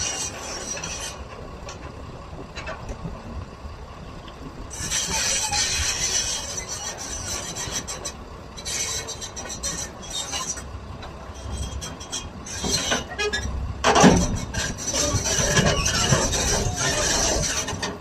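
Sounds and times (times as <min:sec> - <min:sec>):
metal scraping and squealing: 0:00.0 - 0:01.9, 0:04.7 - 0:18.0
excavator running: 0:00.0 - 0:18.0.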